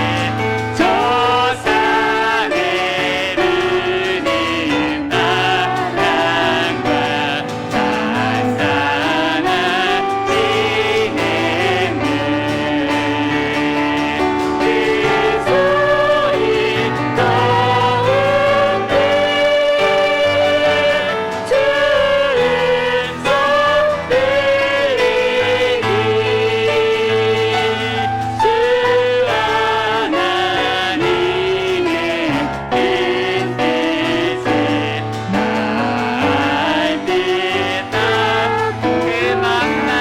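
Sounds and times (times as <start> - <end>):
group singing worship song: 0.0 - 40.0
piano accompaniment: 0.0 - 40.0.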